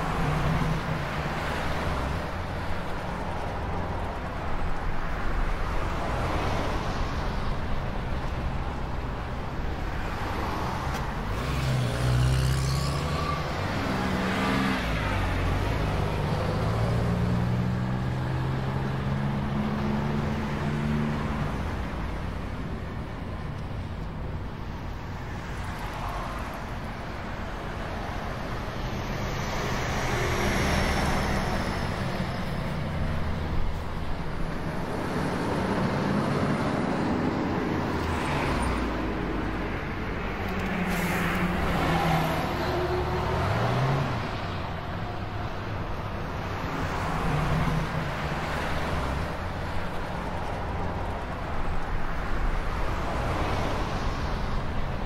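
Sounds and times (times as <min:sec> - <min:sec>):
tyre road noise: 0:00.0 - 0:55.0.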